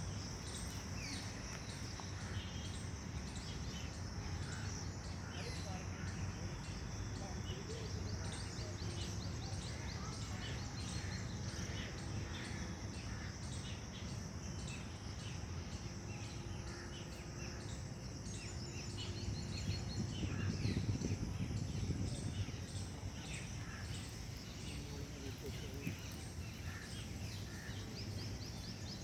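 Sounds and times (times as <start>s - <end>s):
birds chirping: 0.0s - 29.0s
high insect drone: 0.0s - 29.0s.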